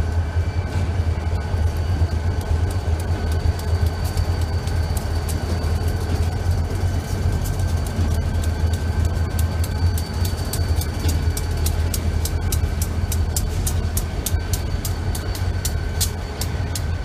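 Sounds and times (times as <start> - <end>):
freight train rumbling: 0.0 - 17.0
wheels clicking over rail joints: 0.8 - 17.0.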